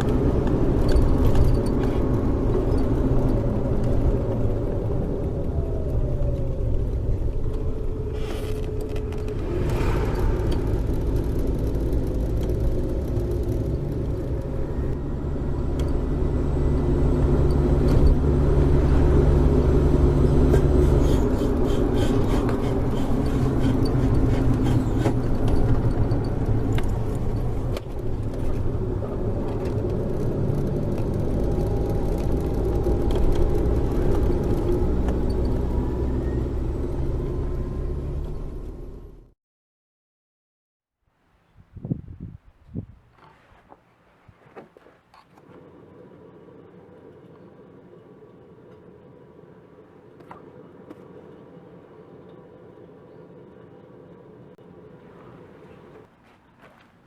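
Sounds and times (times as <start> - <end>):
vehicle rumble with droning bearing: 0.0 - 39.4, 41.6 - 57.0.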